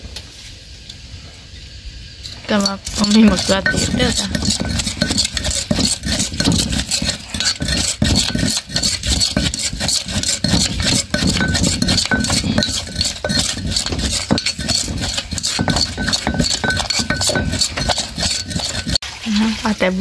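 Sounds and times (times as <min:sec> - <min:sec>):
spoon clinking against mortar: 0:02.2 - 0:19.0
pestle pounding in stone mortar: 0:02.3 - 0:19.0.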